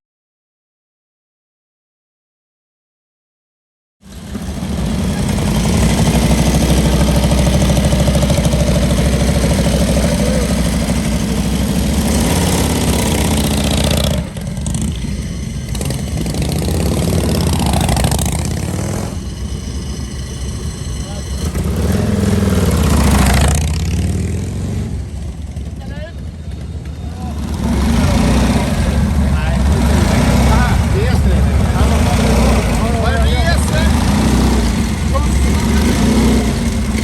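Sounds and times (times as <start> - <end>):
motorcycle engines rumbling and revving: 4.0 - 37.0.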